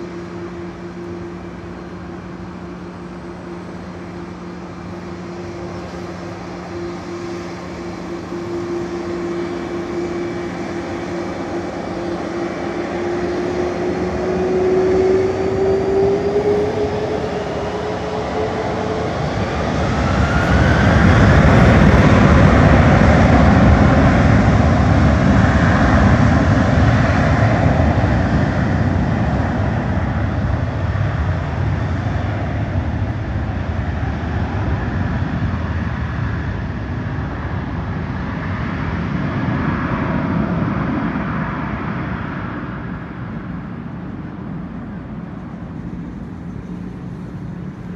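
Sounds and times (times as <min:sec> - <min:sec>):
jet airliner engines: 0:00.0 - 0:47.9.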